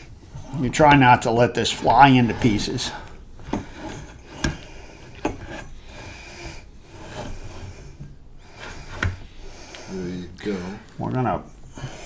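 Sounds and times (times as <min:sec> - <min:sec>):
metal scraping on metal: 0:00.0 - 0:10.7.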